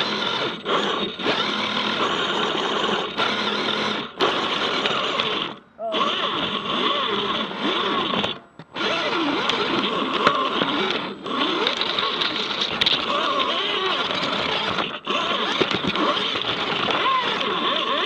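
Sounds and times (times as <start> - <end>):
electric motor and gears whining: 0.0 - 18.0.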